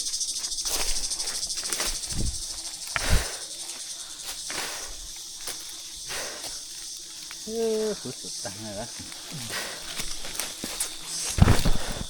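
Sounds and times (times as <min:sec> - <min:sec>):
insects buzzing shrilly: 0:00.0 - 0:12.0.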